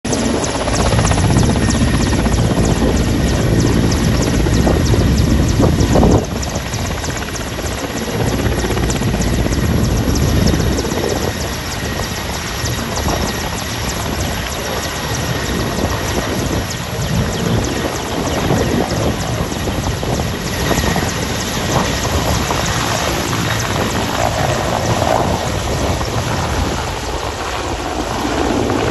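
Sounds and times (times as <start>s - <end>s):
helicopter rotor and engine: 0.0s - 28.9s.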